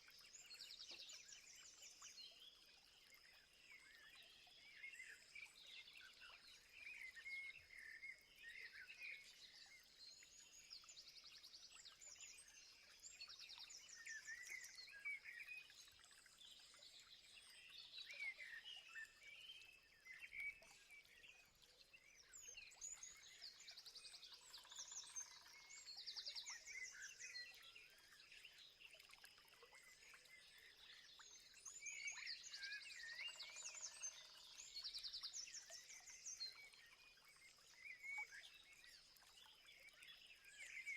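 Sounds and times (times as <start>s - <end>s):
wild birds chirping and singing: 0.0s - 40.9s.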